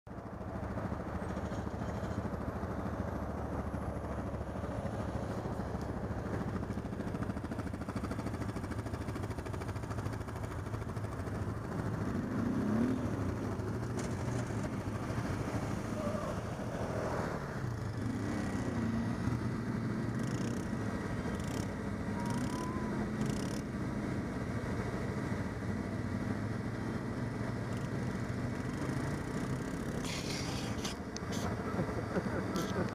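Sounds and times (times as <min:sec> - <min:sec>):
quad bike engine running: 0:00.1 - 0:32.9.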